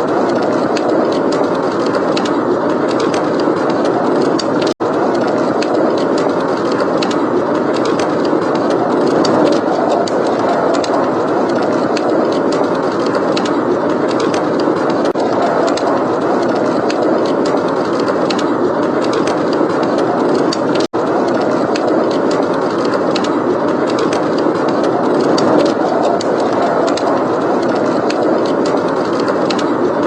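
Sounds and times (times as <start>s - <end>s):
blizzard wind blowing: 0.0s - 30.0s
wood fire crackling: 0.0s - 30.0s.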